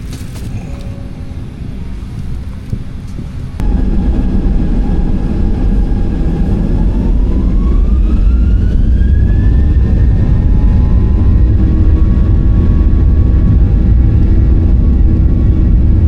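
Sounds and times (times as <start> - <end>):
jet engines rumbling: 0.0 - 16.0
rising engine whine: 0.4 - 16.0.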